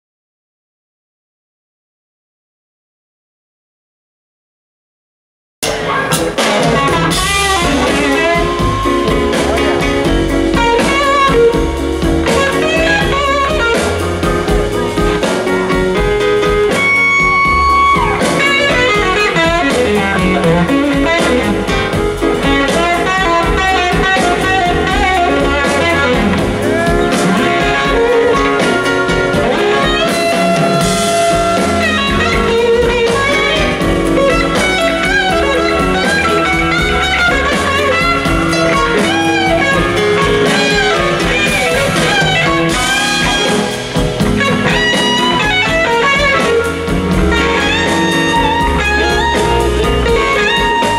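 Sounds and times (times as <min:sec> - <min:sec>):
drums: 0:05.6 - 0:50.9
electric bass: 0:05.6 - 0:50.9
lead electric guitar: 0:05.6 - 0:50.9.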